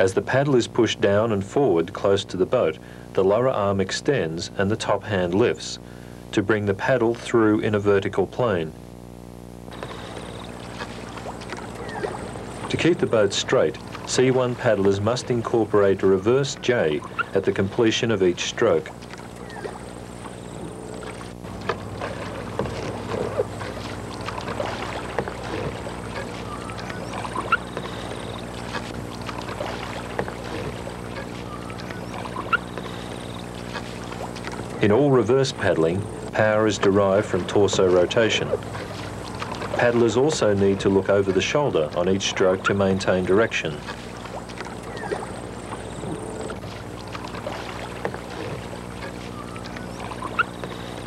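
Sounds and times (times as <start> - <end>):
canoe paddles splashing: 0.0 - 51.0
steady low hum: 0.0 - 51.0.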